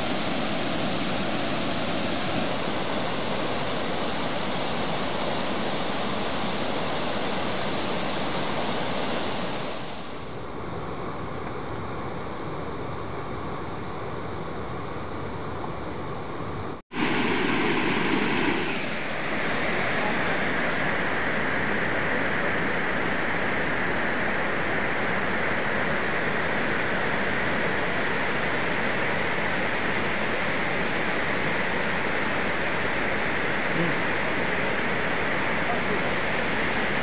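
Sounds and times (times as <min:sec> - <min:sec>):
water rushing over weir: 0:00.0 - 0:10.4, 0:16.9 - 0:37.0.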